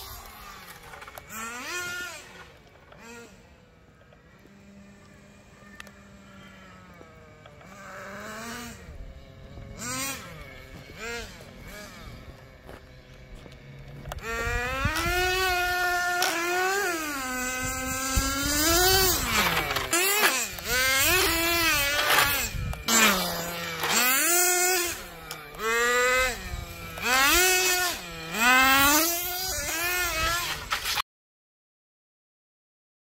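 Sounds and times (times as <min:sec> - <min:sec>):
rc car engine revving: 0:00.0 - 0:31.0.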